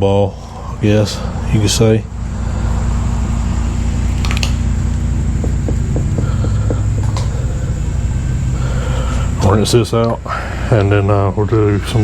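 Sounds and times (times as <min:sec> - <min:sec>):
low mechanical hum with throb: 0:00.0 - 0:12.0.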